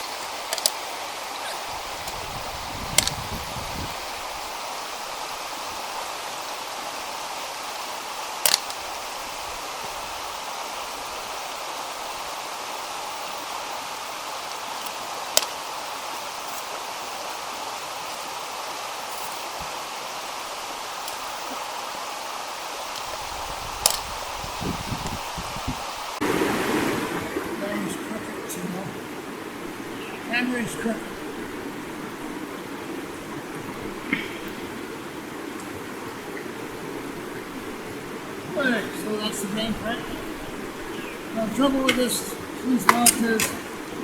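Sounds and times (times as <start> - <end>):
creek water running: 0.0 - 44.0.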